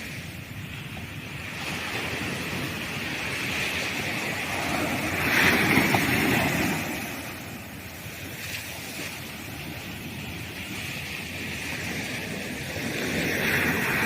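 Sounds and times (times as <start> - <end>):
ocean waves breaking on beach: 0.0 - 14.0.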